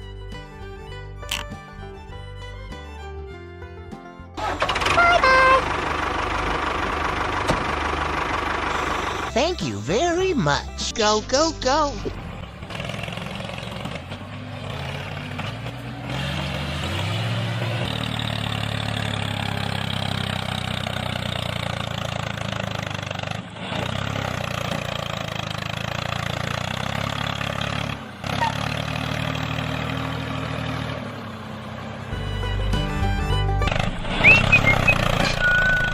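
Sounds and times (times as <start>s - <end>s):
mini tractor engine running: 4.4s - 35.9s.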